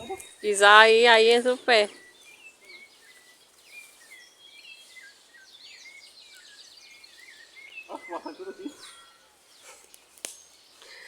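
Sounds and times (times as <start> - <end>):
birds chirping and calling: 0.0 - 11.0
faint outdoor background noise: 0.0 - 11.0.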